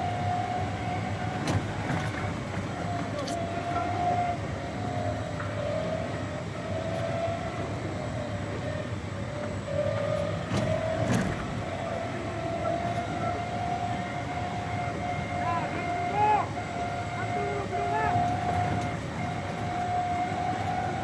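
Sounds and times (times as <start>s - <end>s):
motor whining and rumbling: 0.0s - 21.0s.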